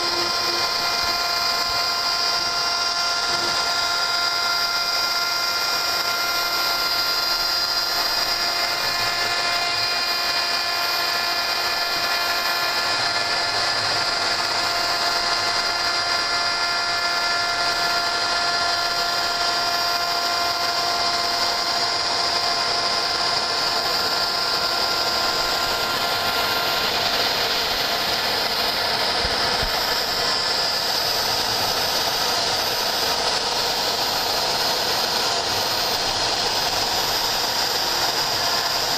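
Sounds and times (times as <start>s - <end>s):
router spindle high whine: 0.0s - 38.9s
rushing cutting noise: 0.0s - 38.9s.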